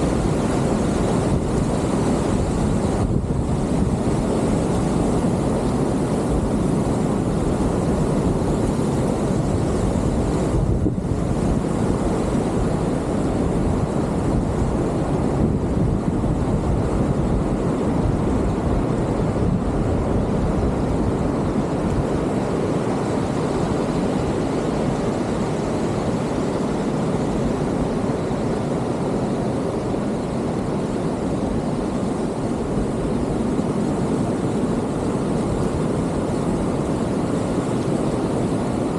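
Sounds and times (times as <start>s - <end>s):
ocean surf: 0.0s - 38.9s
wind: 0.0s - 38.9s.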